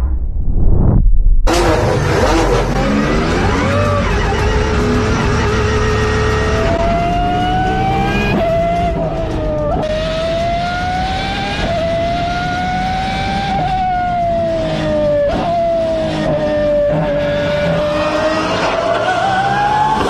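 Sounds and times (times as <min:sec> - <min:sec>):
high-revving car engine wail: 0:01.5 - 0:20.0.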